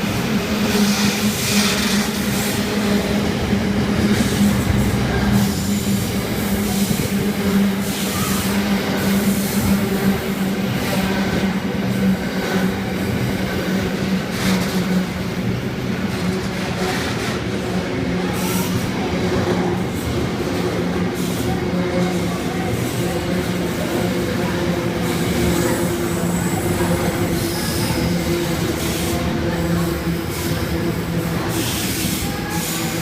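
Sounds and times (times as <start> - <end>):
freight train wheels on rails: 0.0 - 33.0
train wagons clattering: 0.1 - 33.0.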